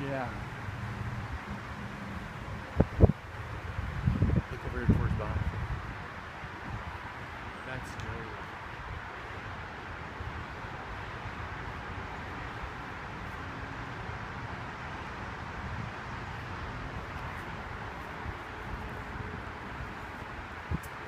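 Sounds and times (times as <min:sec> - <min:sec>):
wind: 0:00.0 - 0:21.0
wind rumble on microphone: 0:00.7 - 0:11.4, 0:13.9 - 0:21.0.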